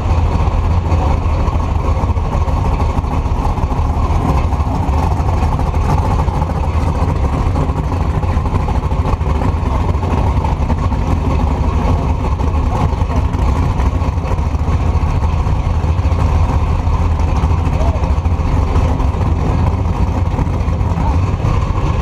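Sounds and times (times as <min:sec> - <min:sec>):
truck engine low rumble: 0:00.0 - 0:22.0.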